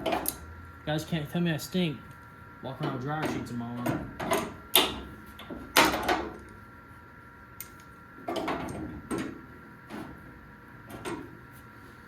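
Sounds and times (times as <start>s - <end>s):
faint steady high hum: 0.0s - 12.0s.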